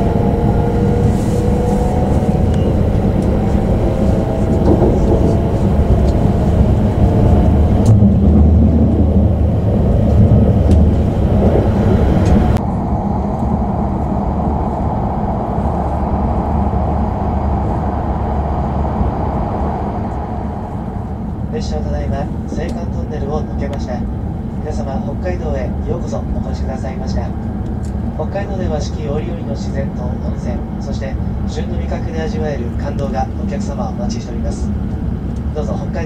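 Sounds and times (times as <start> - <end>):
train cabin rumble: 0.0 - 36.0.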